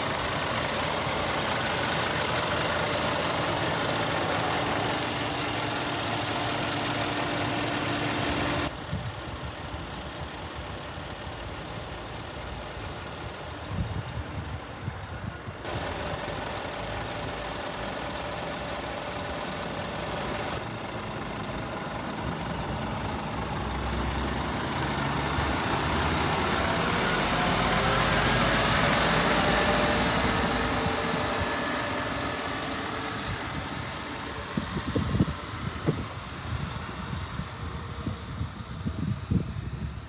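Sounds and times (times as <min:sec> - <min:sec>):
diesel truck driving past: 0:00.0 - 0:40.0.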